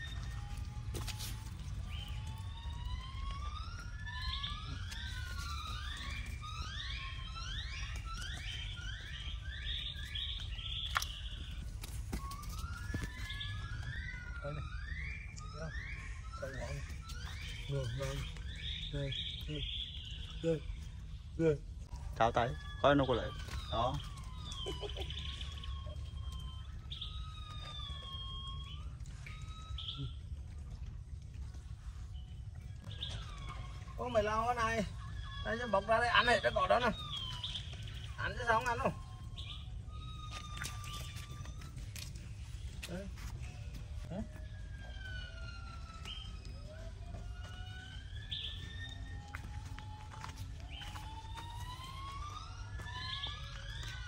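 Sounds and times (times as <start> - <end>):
animal siren-like call: 0.0 - 54.0.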